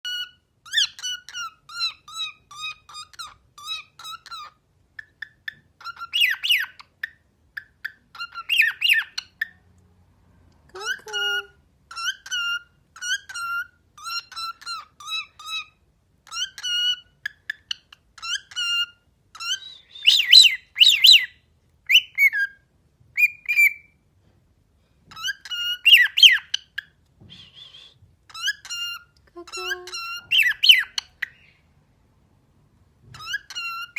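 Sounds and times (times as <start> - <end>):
cockatiel chirping and whistling: 0.1 - 9.6, 11.0 - 22.6, 23.2 - 24.0, 25.1 - 31.6, 33.1 - 33.9.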